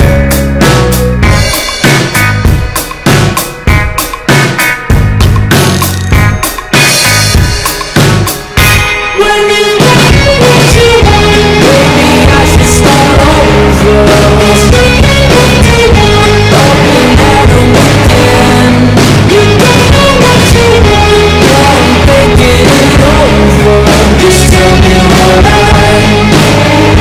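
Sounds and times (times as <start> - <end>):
rock song with singing: 0.0 - 27.0.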